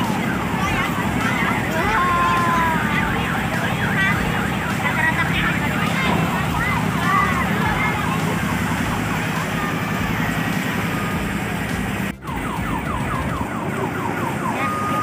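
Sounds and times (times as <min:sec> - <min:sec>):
repeating electronic warble: 0:00.0 - 0:15.0.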